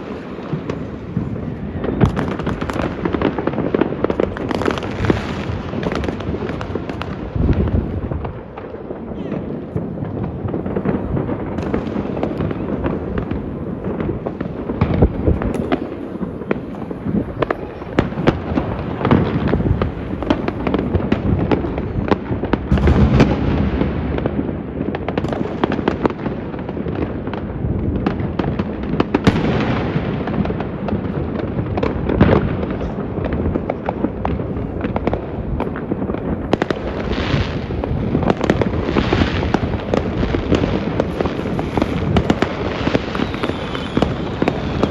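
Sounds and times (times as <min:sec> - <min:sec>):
fireworks crackling and banging: 0:00.0 - 0:44.9.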